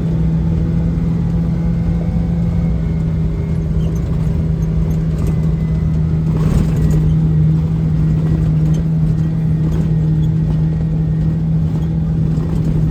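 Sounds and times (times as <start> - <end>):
vehicle engine droning: 0.0 - 12.9.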